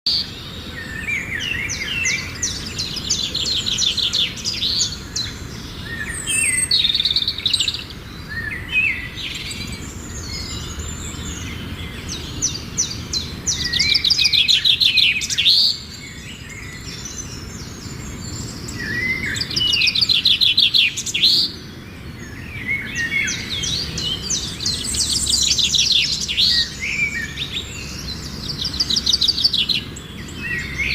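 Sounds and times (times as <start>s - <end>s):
bird chirps: 0.1s - 30.9s
birds singing trilled phrases: 0.1s - 30.9s.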